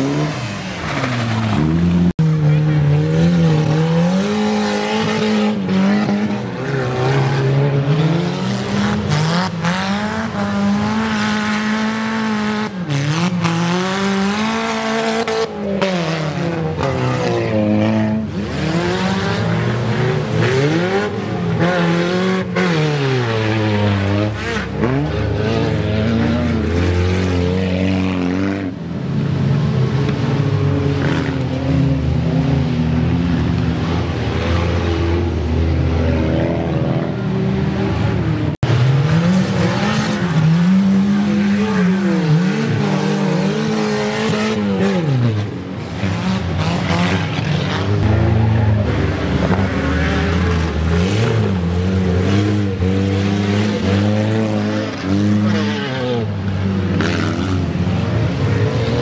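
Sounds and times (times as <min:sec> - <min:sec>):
car engine revving hard: 0:00.0 - 0:28.7, 0:37.9 - 0:59.0.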